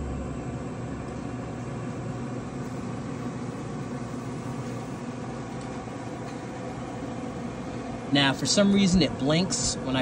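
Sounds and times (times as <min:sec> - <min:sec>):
pellet grill auger motor hum: 0:00.0 - 0:10.0.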